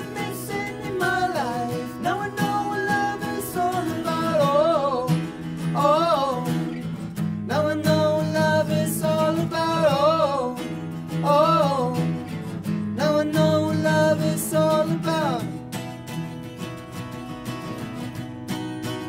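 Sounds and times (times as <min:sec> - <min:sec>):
man singing folk-pop song: 0:00.0 - 0:15.8
strummed acoustic guitar: 0:00.0 - 0:19.0.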